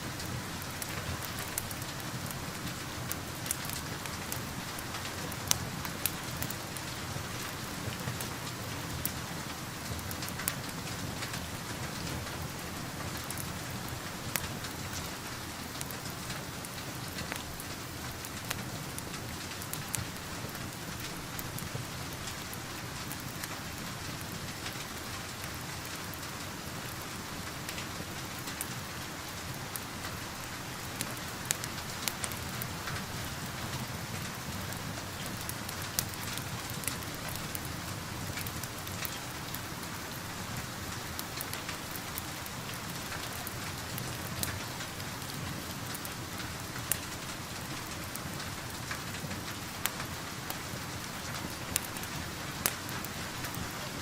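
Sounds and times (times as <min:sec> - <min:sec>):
steady rain hiss: 0:00.0 - 0:54.0
wood fire crackling: 0:00.1 - 0:54.0.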